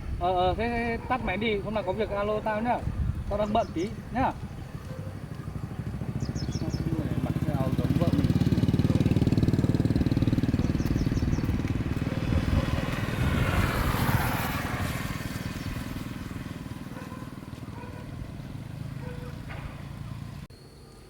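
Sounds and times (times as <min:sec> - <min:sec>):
motorcycle engine running: 0:03.0 - 0:20.5.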